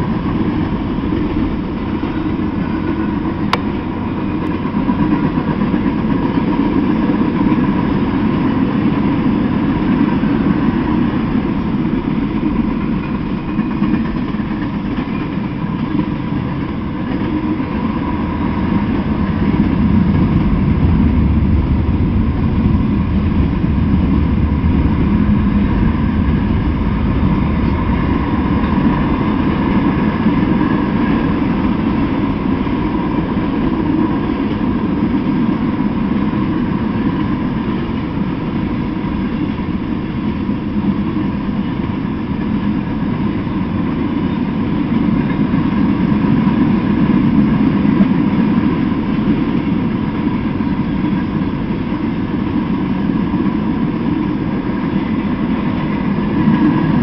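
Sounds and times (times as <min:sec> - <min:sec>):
freight train rumbling on rails: 0:00.0 - 0:57.0.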